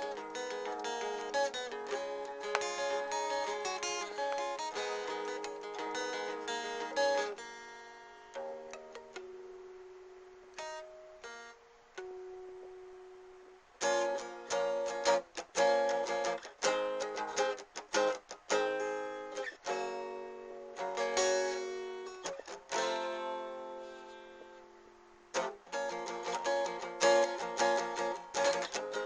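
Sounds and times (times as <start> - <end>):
solo guitar playing: 0.0 - 29.0.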